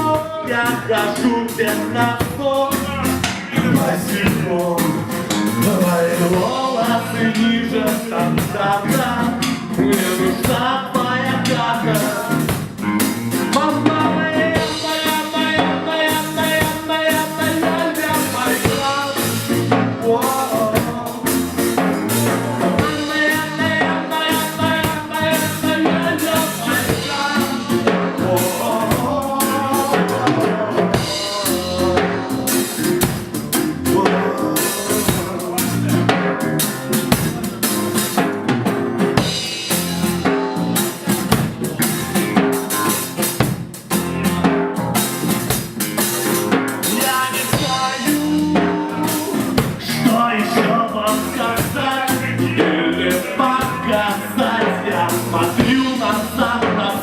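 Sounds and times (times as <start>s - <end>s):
bass drum: 0.0s - 57.0s
guitar: 0.0s - 57.0s
reggae band playing: 0.0s - 57.0s.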